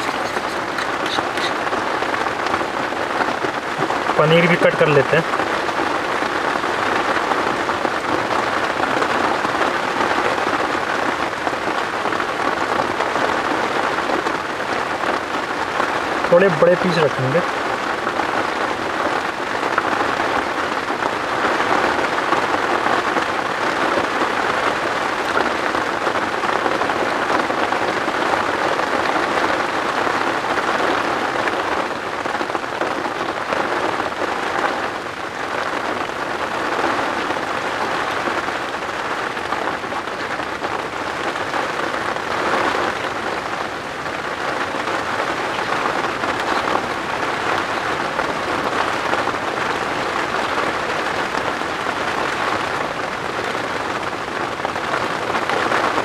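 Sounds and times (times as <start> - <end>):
heavy rain on tent: 0.0 - 56.0.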